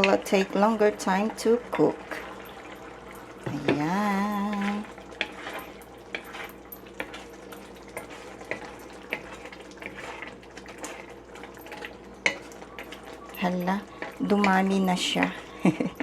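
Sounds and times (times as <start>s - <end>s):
stew bubbling: 0.0s - 16.0s
utensil scraping a pot: 0.0s - 16.0s.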